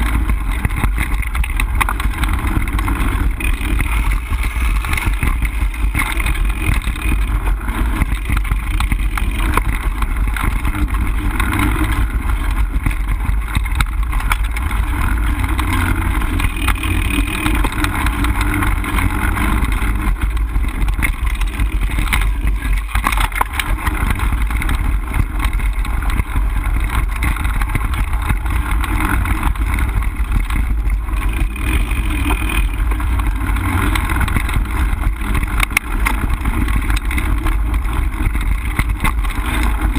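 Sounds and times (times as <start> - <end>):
bike clicks and rattles: 0.0 - 39.9
bike tyres on dirt: 0.0 - 39.9
wind rumble on microphone: 0.0 - 39.9.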